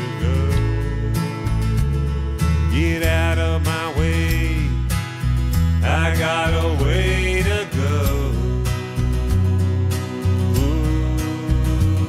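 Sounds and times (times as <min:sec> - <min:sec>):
country music with guitar: 0:00.0 - 0:12.0
steady bass line: 0:00.0 - 0:12.0.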